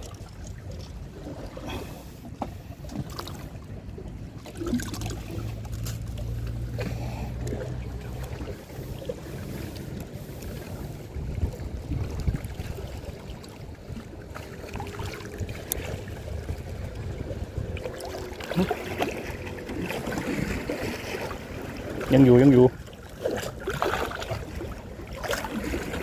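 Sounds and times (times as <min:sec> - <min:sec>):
boat motor humming: 0:00.0 - 0:26.0
water noise: 0:00.0 - 0:26.0
wind: 0:00.0 - 0:26.0.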